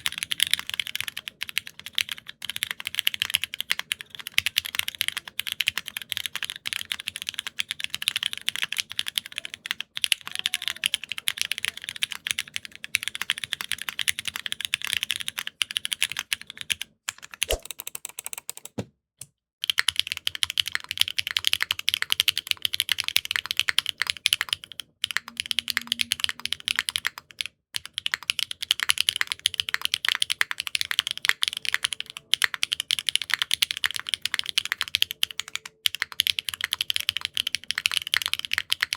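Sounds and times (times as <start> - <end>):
mechanical keyboard typing: 0.0 - 18.8, 19.6 - 38.9.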